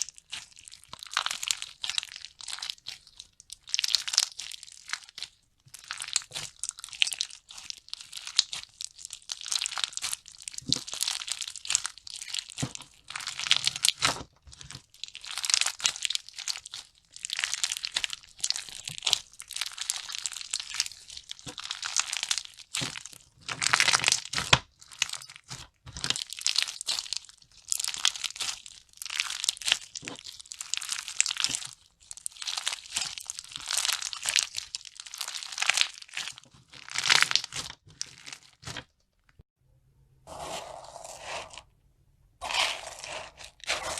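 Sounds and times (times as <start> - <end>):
slime crackling squeezed by hand: 0.0 - 38.9.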